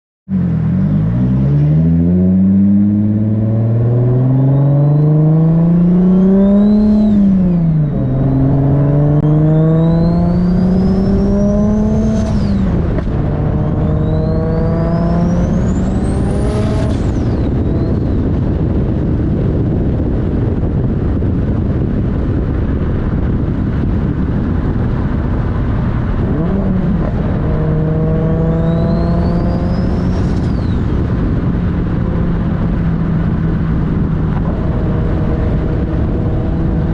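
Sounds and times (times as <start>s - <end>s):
car engine accelerating hard: 0.4s - 36.9s.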